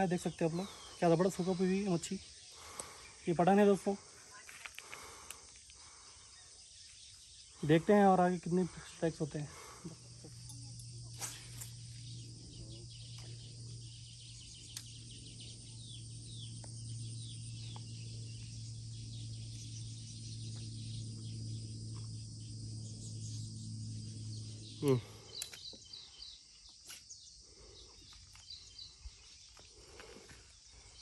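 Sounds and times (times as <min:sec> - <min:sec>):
small birds chirping: 0:00.0 - 0:31.0
steady low hum: 0:00.0 - 0:31.0.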